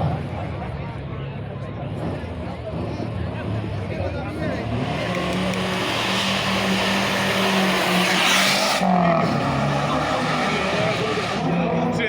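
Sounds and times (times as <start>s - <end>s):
car engine revving: 1.8s - 12.0s.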